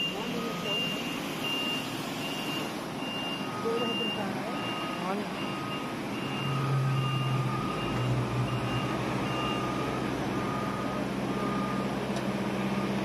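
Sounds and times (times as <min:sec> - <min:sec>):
engine droning: 0:00.0 - 0:13.0
vehicle warning beepers: 0:00.0 - 0:13.0.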